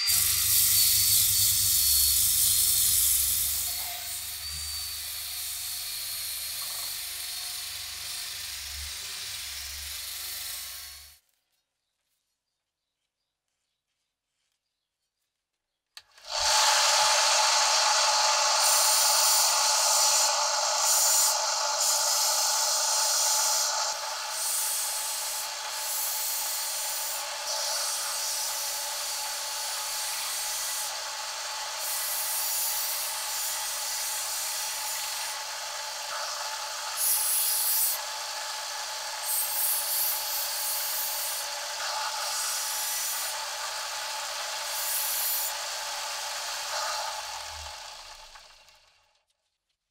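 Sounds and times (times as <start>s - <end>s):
belt sander grinding metal: 0.0s - 11.2s, 16.1s - 48.7s.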